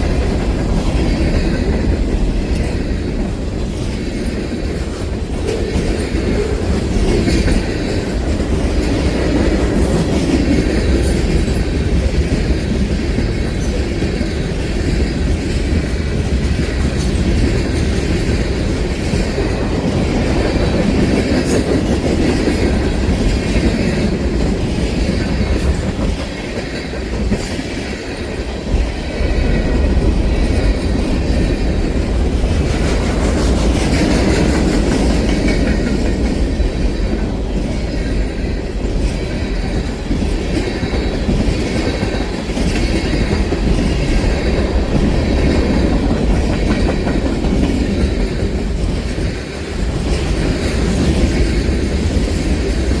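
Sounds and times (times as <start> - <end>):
freight train rumble: 0.0 - 53.0.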